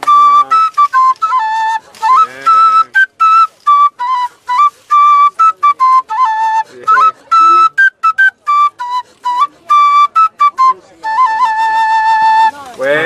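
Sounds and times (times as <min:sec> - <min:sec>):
wooden flute melody: 0:00.0 - 0:13.0.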